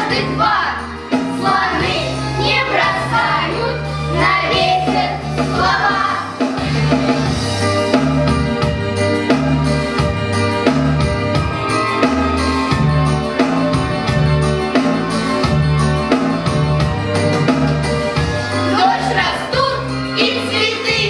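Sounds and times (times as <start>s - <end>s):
bass line: 0.0s - 21.0s
keyboard chords: 0.0s - 21.0s.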